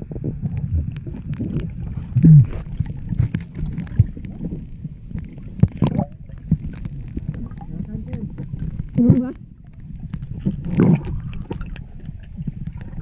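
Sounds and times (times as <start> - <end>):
steady low rumble: 0.0 - 13.0
water sloshing and splashing: 0.0 - 13.0.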